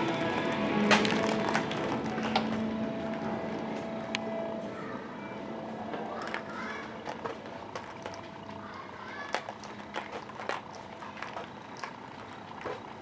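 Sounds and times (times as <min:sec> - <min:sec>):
distant voices: 0:00.0 - 0:13.0
steady mechanical hum: 0:00.0 - 0:13.0.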